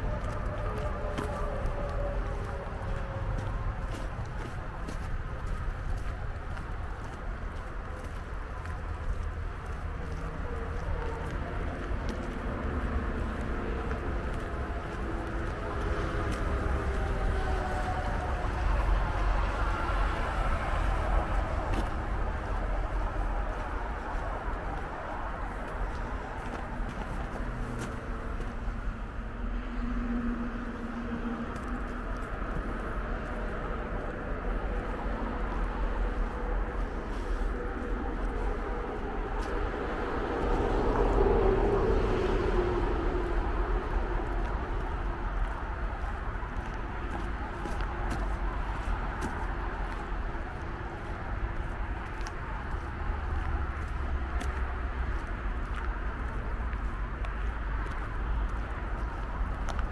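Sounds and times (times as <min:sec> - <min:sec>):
road traffic drone: 0:00.0 - 0:59.9.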